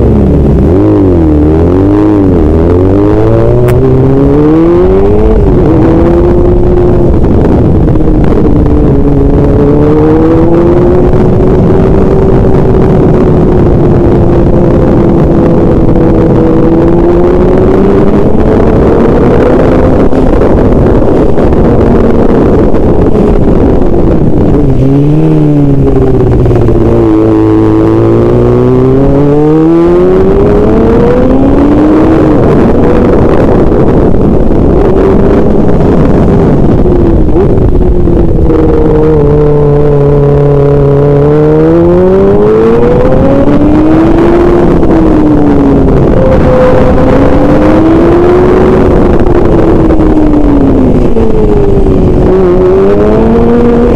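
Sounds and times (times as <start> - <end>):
vehicle engine: 0.0 - 53.9
wind and road noise: 0.0 - 53.9.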